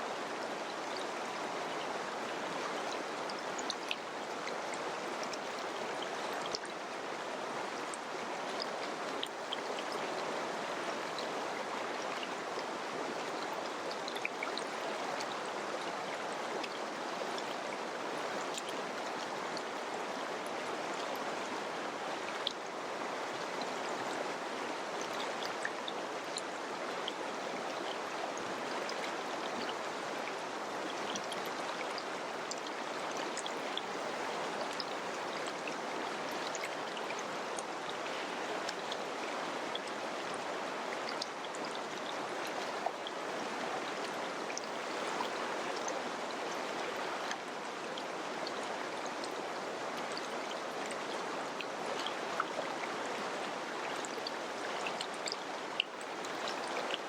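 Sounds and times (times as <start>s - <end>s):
river rushing over rocks: 0.1s - 57.0s.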